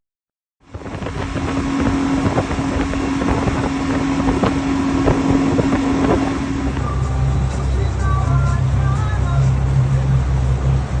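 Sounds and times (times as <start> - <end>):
outboard engine droning: 0.6 - 11.0
water noise: 0.6 - 11.0
wind buffeting microphone: 0.6 - 11.0.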